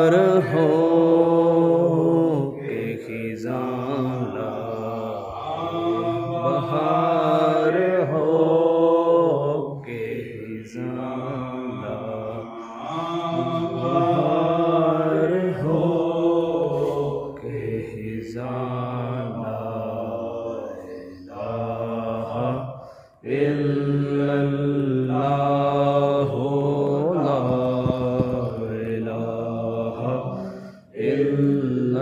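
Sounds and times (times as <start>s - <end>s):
man chanting: 0.0s - 32.0s.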